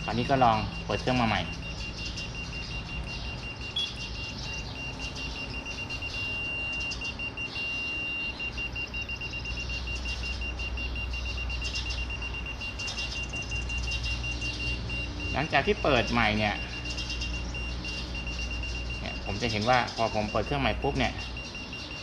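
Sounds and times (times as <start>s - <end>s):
digital level beeping: 0.0s - 22.0s.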